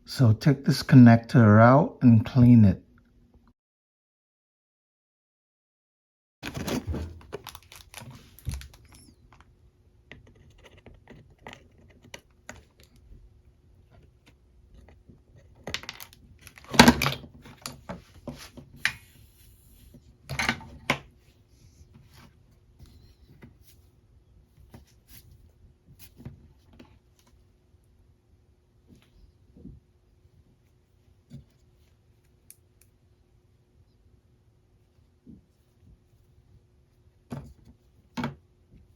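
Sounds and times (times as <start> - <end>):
faint steady hum: 6.4 - 38.9.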